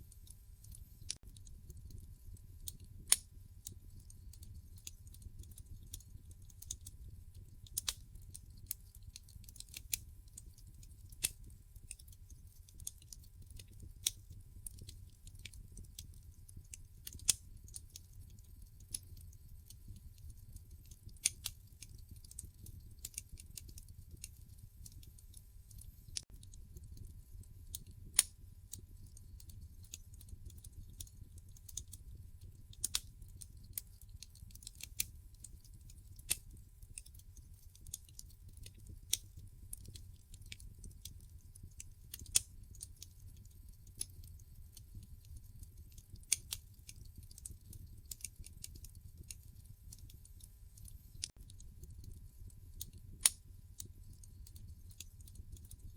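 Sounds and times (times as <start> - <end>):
low steady fire rumble: 0.0 - 55.9
wood fire crackling: 0.0 - 55.9.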